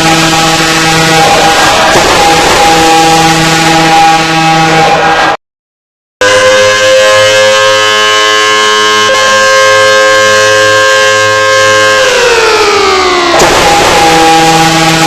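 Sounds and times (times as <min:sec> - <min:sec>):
warning siren steady tone: 0:00.0 - 0:05.4, 0:06.2 - 0:15.0.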